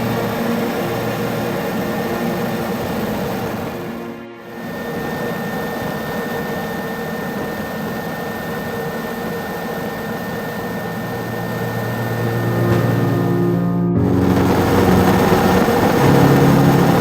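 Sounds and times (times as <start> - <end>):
helicopter turbine whine: 0.0 - 17.0.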